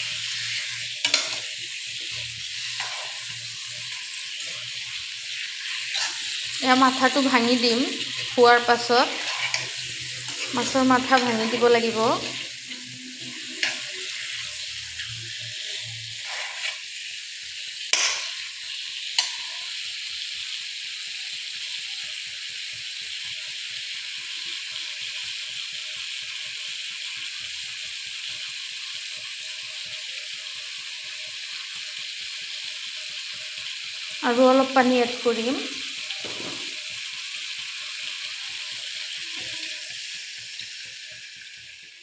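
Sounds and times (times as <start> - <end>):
fish sizzling in oil: 0.0 - 42.0.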